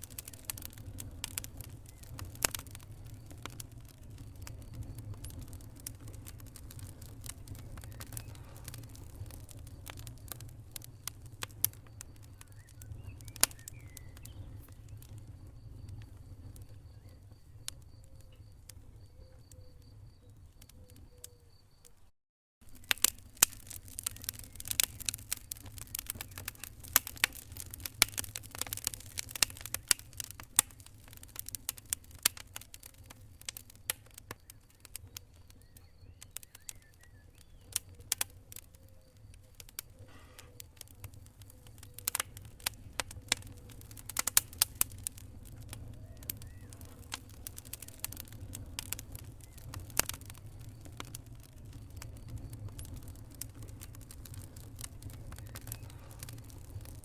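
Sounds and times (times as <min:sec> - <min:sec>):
wood fire crackling and popping: 0:00.0 - 0:22.0, 0:22.6 - 0:57.0.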